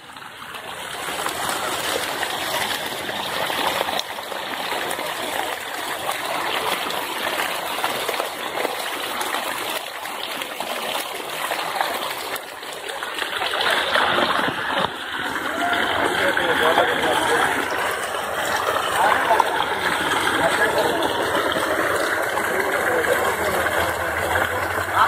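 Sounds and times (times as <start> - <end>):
water gushing onto rocks: 0.0 - 25.0.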